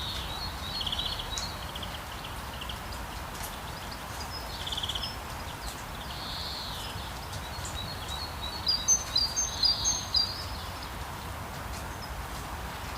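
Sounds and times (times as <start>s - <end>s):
birds singing: 0.0s - 12.2s.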